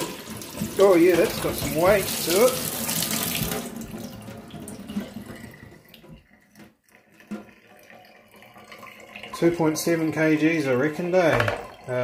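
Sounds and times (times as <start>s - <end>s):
tap water splashing into sink: 0.0s - 12.0s.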